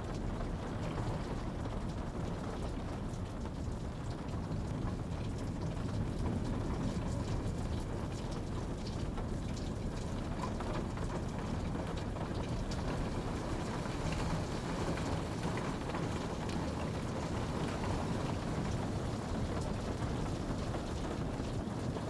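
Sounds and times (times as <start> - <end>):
raindrops pattering: 0.0 - 22.0.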